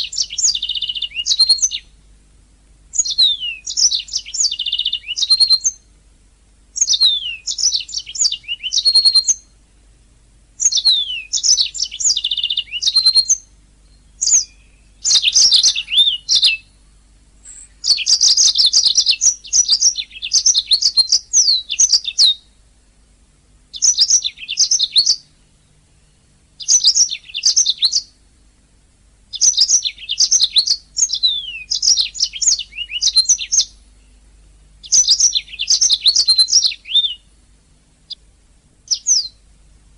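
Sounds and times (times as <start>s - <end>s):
canary singing: 0.0s - 2.0s, 2.9s - 5.9s, 6.7s - 9.6s, 10.6s - 22.6s, 23.7s - 28.6s, 29.3s - 37.4s, 38.0s - 39.4s
faint steady hum: 0.0s - 39.9s.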